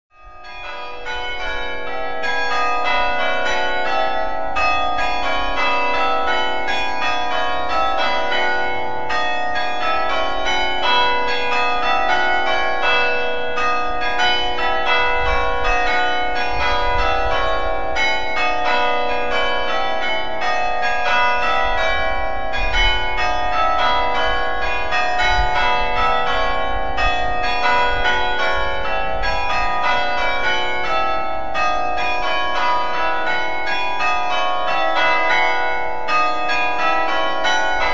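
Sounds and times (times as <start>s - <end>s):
church bells struck by hammers: 0.1s - 37.9s.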